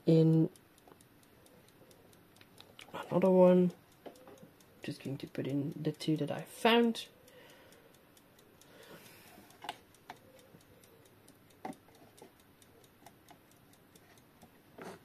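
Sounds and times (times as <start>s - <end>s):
clock ticking: 0.0s - 15.0s
light knocks of clock movement: 0.0s - 15.0s.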